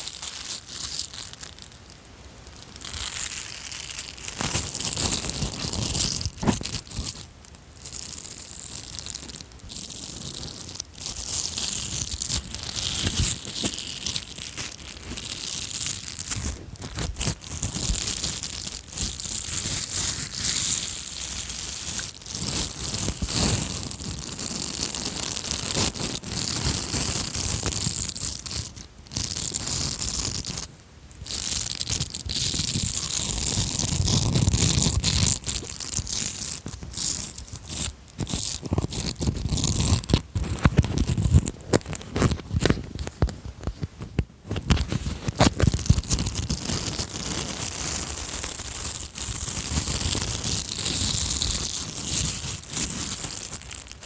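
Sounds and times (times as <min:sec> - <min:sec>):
crinkling and rustling object: 0:00.0 - 0:54.0.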